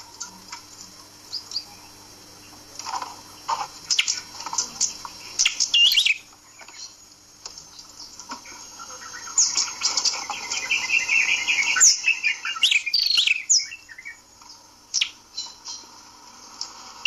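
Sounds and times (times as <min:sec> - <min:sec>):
songbird chirping and scolding: 0:01.2 - 0:02.6, 0:03.2 - 0:16.0.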